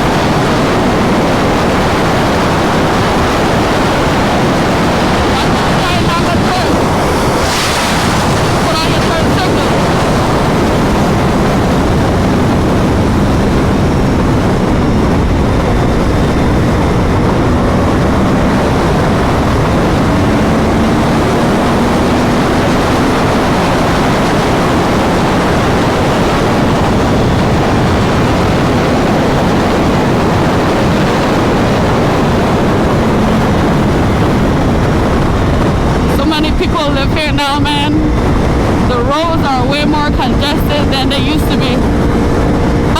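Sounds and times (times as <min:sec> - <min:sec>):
motorcycle engine running: 0:00.0 - 0:07.6, 0:08.2 - 0:42.9
heavy wind rush: 0:00.0 - 0:42.9.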